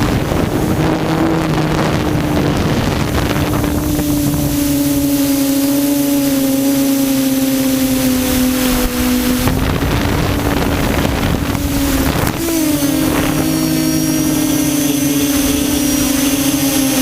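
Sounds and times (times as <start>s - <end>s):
quadcopter motors humming: 0.0s - 17.0s
wind buffeting microphone: 0.0s - 17.0s.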